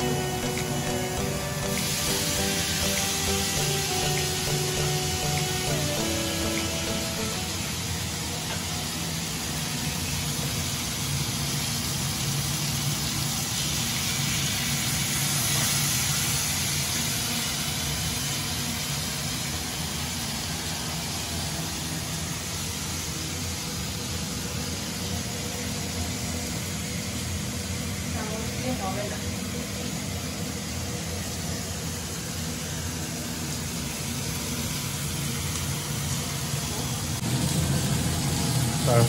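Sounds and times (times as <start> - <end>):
chicken frying in oil: 0.0 - 39.0.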